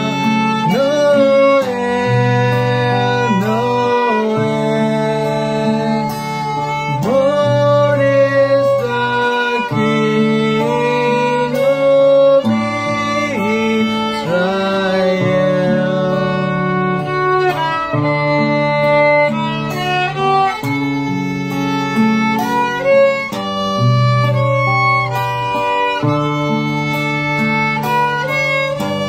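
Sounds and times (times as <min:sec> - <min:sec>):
acoustic guitar chords: 0:00.0 - 0:29.0
violin melody: 0:00.0 - 0:29.0.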